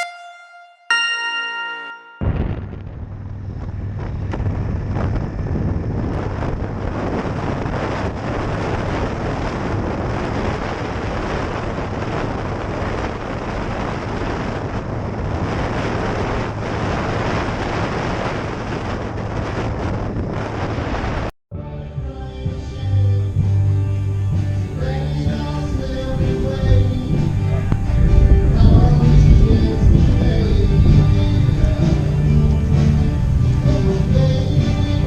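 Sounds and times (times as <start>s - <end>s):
wind rushing over microphone: 2.2s - 21.3s, 22.8s - 35.0s.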